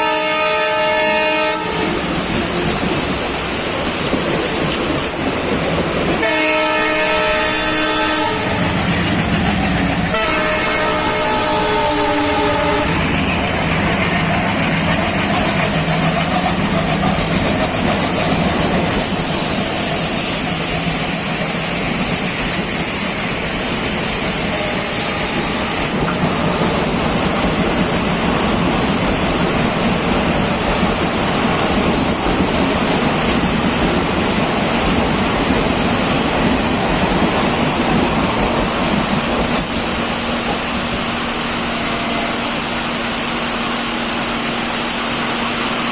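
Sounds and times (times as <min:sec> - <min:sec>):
diesel locomotive engine rumbling: 0:00.0 - 0:45.9.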